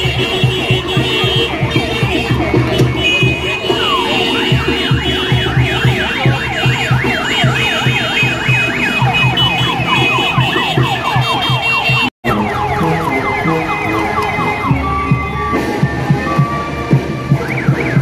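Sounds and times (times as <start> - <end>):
electronic sirens wailing: 1.6 - 18.0.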